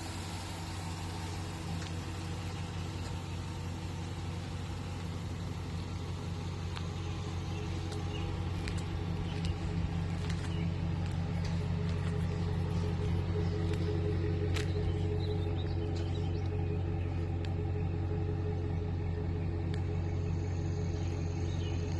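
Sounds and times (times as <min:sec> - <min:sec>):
pickup engine idling: 0:00.0 - 0:21.9.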